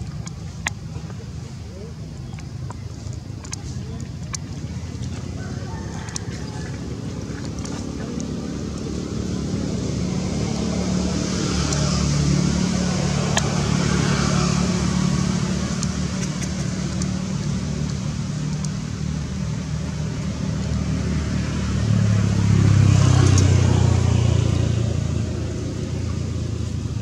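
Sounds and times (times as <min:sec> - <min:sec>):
vehicle engine hum passing: 0:00.0 - 0:27.0.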